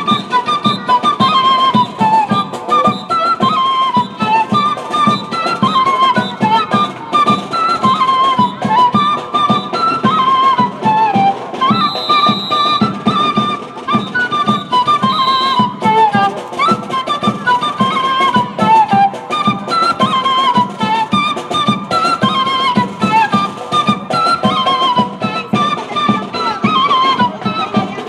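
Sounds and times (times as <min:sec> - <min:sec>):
flutes playing folk melody: 0:00.0 - 0:28.0
steady drumbeat: 0:00.0 - 0:28.0.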